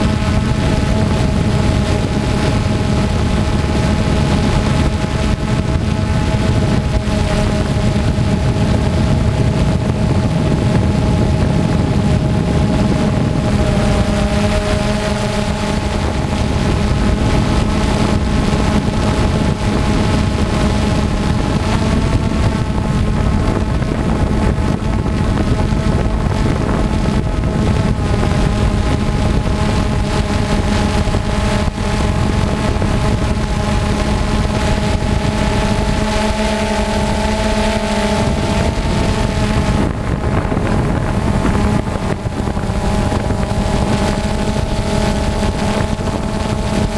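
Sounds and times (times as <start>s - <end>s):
quadcopter motors whining: 0.0s - 46.9s
wind noise: 0.0s - 46.9s.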